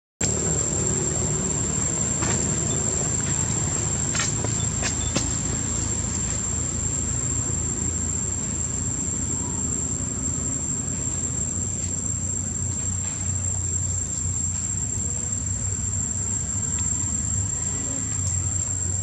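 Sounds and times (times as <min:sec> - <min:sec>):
high-pitched insect drone: 0:00.2 - 0:19.0.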